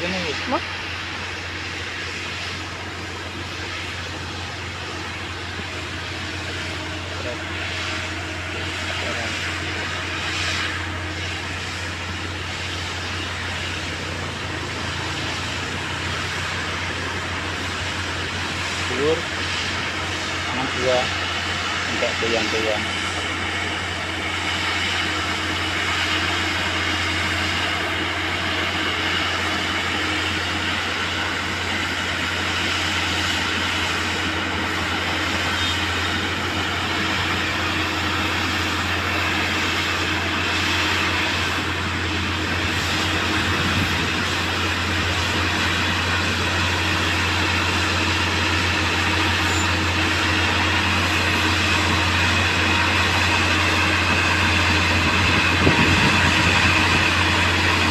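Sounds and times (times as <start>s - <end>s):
track maintenance machine engine hum: 0.0s - 57.9s.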